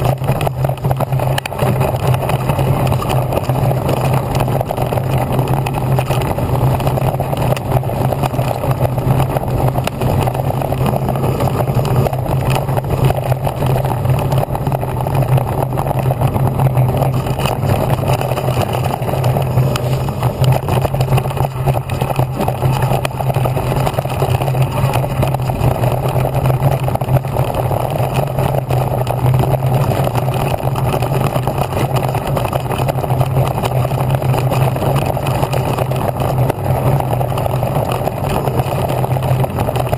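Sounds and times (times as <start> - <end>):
bike frame rattling: 0.0 - 39.9
low hum: 0.0 - 39.9
wind on microphone: 0.0 - 39.9.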